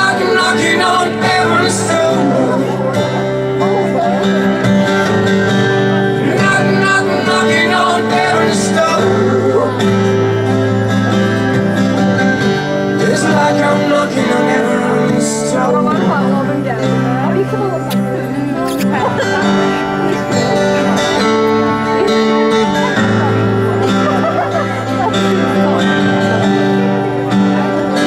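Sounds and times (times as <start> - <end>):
plucked string notes: 0.0 - 28.0.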